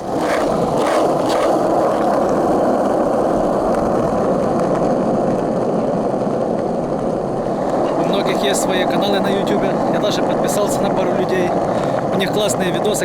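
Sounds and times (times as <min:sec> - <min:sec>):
skateboard wheels rolling on pavement: 0:00.0 - 0:13.0.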